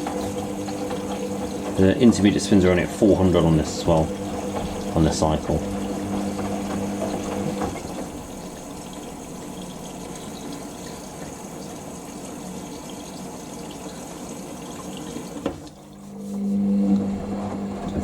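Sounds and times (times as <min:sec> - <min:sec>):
water rushing into washing machine: 0:00.0 - 0:18.0.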